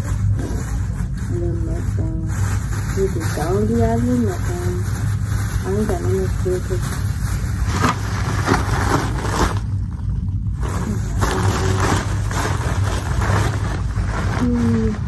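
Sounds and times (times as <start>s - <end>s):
plastic bag crinkling: 0.0s - 15.0s
steady low hum: 0.0s - 15.0s.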